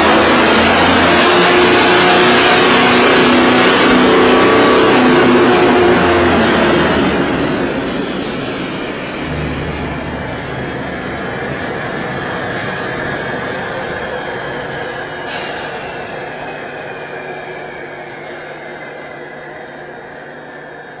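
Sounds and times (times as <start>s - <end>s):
propeller spinning down: 0.0s - 20.9s
aircraft engine winding down: 0.0s - 21.0s.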